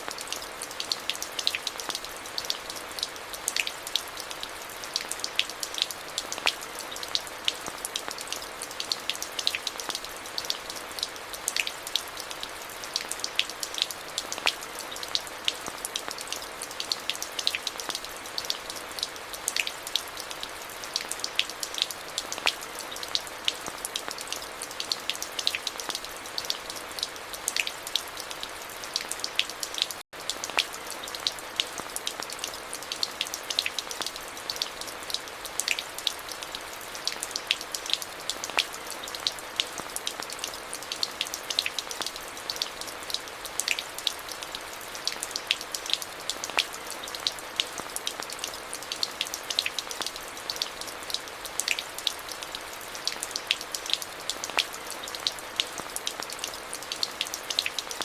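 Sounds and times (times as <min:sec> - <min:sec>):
steady rain with ticking drops: 0:00.0 - 0:58.0.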